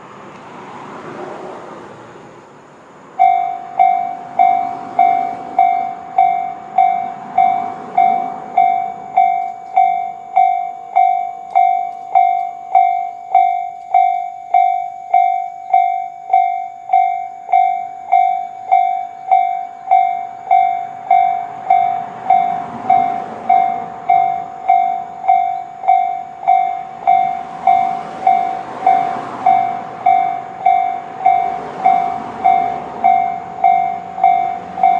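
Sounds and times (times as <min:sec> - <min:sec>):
level crossing alarm dings: 0:03.2 - 0:34.9.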